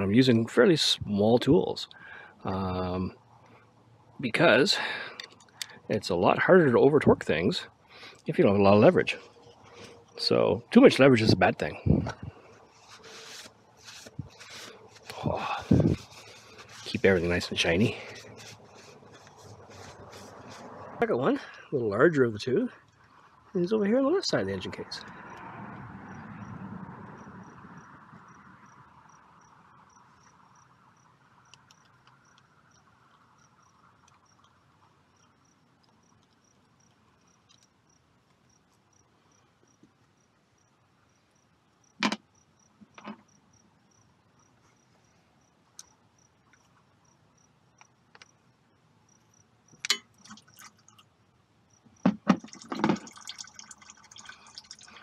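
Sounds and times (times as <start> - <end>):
insect chirping: 1.2 - 55.0.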